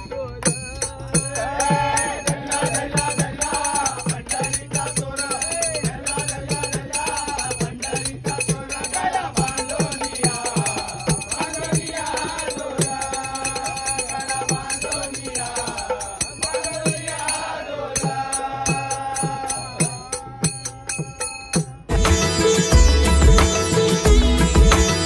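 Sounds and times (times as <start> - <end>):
hand cymbals ringing: 0.0 - 25.0
hand drum beat: 0.4 - 17.3, 18.0 - 25.0
men singing in chorus: 0.5 - 21.1.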